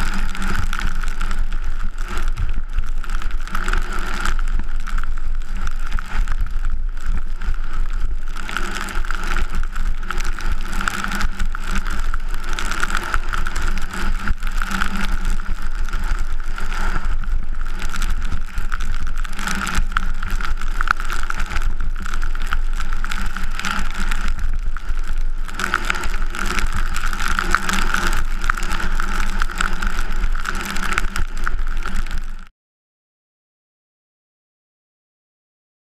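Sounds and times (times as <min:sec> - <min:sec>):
skis running over snow: 0:00.0 - 0:32.5.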